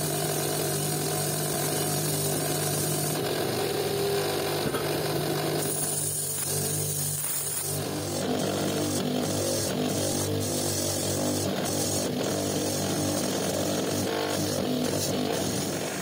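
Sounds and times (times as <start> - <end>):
bench grinder grinding metal: 0.0 - 16.0.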